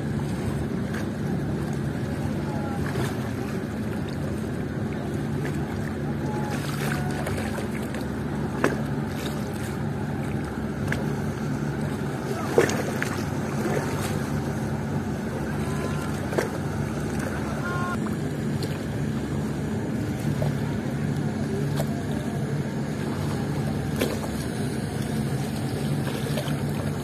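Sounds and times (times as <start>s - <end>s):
boat engine droning: 0.0s - 27.0s
water washing: 0.0s - 27.0s.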